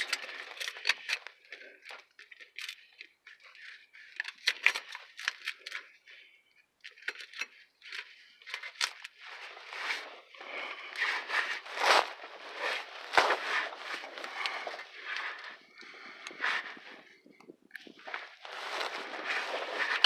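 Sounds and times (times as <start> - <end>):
clamp handling crinkling and scraping: 0.0 - 5.9, 6.8 - 16.8, 17.7 - 20.0.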